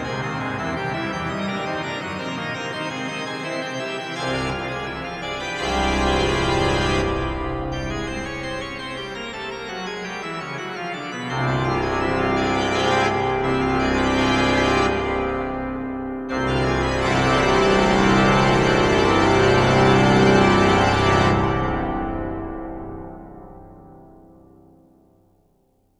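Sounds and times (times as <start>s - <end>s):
deep organ pedal bass: 0.0s - 23.5s
organ playing sustained chords: 0.0s - 24.3s.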